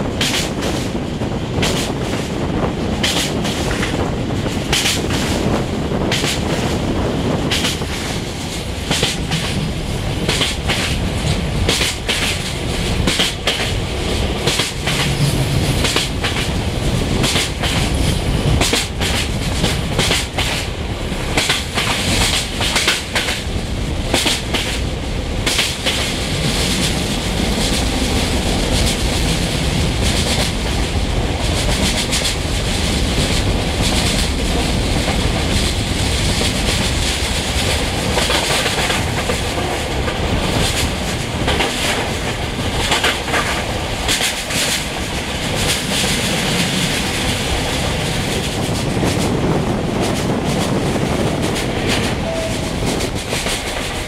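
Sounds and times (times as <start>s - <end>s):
train rolling rumble: 0.0s - 54.0s
train wheels clicking over rail joints: 0.0s - 54.0s.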